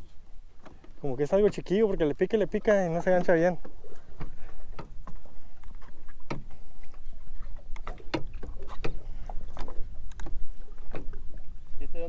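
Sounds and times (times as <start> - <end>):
water slapping against boat hull: 0.4 - 12.0.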